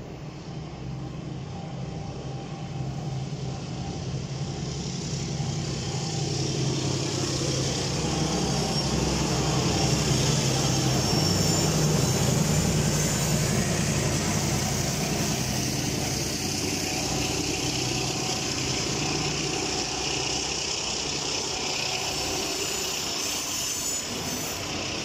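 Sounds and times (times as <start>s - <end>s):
diesel locomotive engine drone: 0.0s - 25.0s
wheels on rails: 4.6s - 25.0s.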